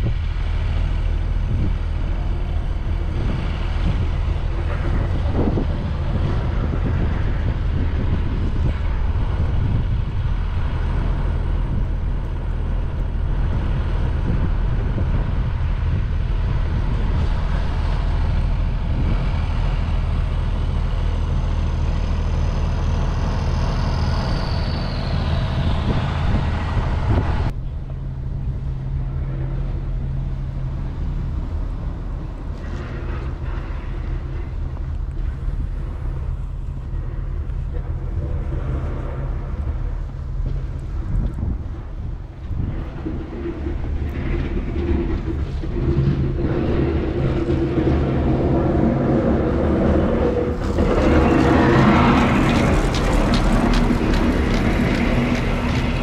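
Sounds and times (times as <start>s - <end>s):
bus engine humming: 0.0s - 56.0s
high whine gliding down: 0.0s - 56.0s.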